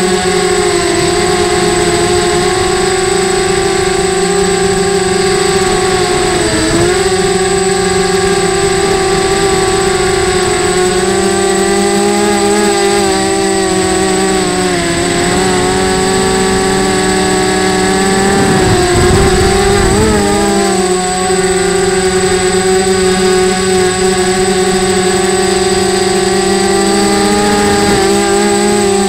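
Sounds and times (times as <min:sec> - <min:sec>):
quadcopter motors buzzing: 0:00.0 - 0:29.0
thin high whine: 0:00.0 - 0:29.0.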